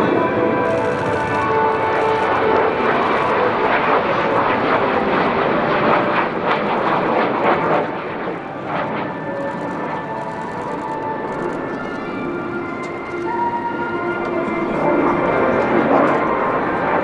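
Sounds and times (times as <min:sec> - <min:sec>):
aircraft engine flying past: 0:00.0 - 0:17.0.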